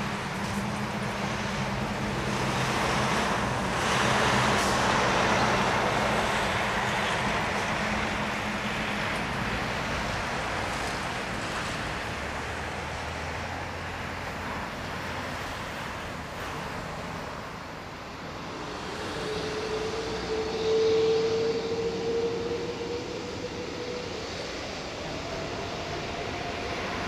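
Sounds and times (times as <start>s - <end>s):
jet engine whine: 0.0s - 27.0s
jet engines rushing: 0.0s - 27.0s.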